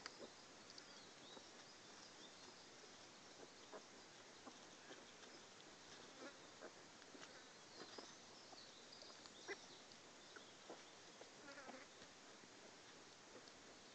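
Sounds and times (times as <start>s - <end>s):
small clicks and rustles: 0.0s - 10.1s, 10.7s - 13.9s
faint outdoor hiss: 0.0s - 13.9s.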